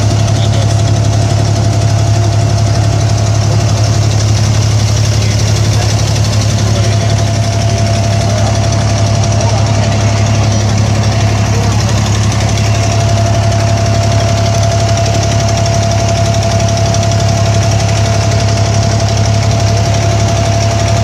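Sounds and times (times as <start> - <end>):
boat diesel engine droning: 0.0 - 21.0
faint engine whine: 0.0 - 21.0.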